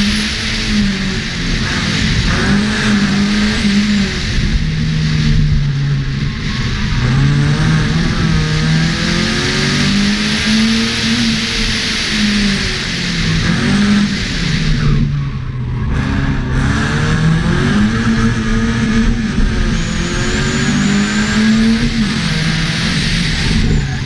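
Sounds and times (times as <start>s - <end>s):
car engine revving hard: 0.0s - 24.0s
road noise: 0.0s - 24.0s
wind noise: 0.0s - 24.0s.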